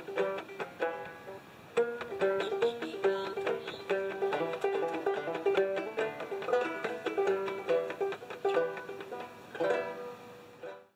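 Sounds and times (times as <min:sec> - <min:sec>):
plucked strings bluegrass music: 0:00.0 - 0:10.9.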